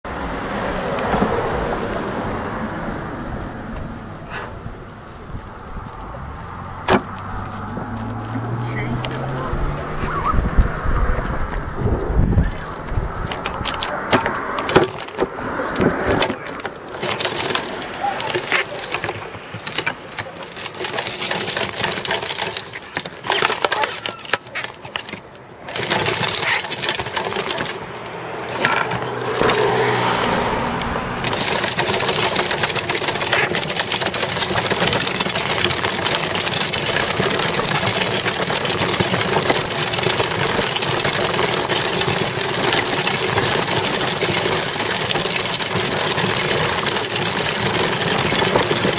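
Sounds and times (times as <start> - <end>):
wind and tyres rushing: 0.0 - 48.9
bicycle rattling and knocking: 0.2 - 2.3, 5.2 - 48.9.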